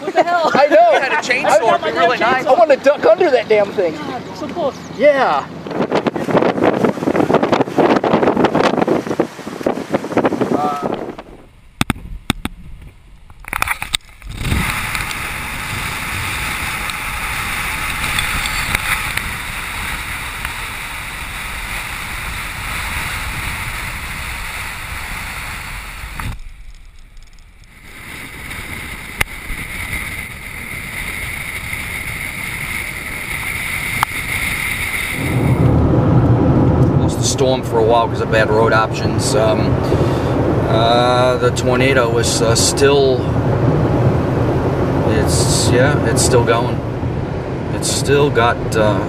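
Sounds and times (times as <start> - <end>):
tyres on dirt road: 0.0 - 49.0
wind rush: 5.0 - 49.0.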